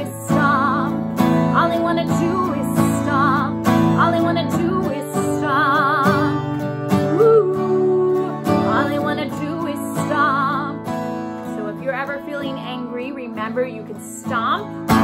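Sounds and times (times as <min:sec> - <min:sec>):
acoustic guitar strumming: 0:00.0 - 0:15.0
woman singing: 0:00.0 - 0:15.0.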